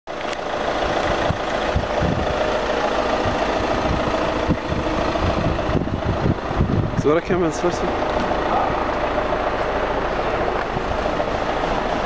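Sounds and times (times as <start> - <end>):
low rumbling: 0.1 - 12.0
street noise: 0.1 - 12.0
vehicle engine idling: 0.1 - 12.0.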